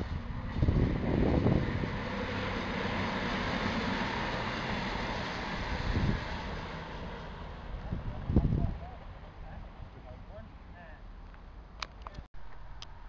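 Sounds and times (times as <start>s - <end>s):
diesel train engine: 0.0s - 11.8s
wheels on rail: 0.0s - 13.0s.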